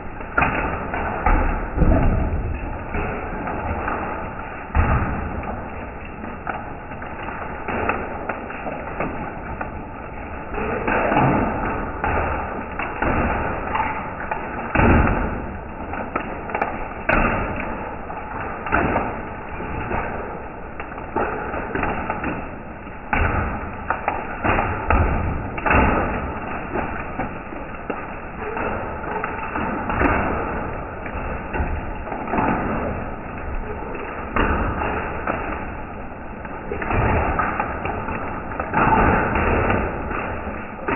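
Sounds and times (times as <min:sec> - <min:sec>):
hailstones knocking on concrete: 0:00.0 - 0:40.9.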